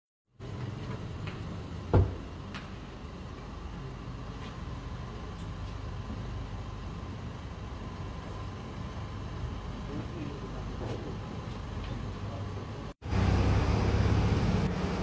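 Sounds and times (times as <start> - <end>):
vehicle engine idling: 0.4 - 15.0.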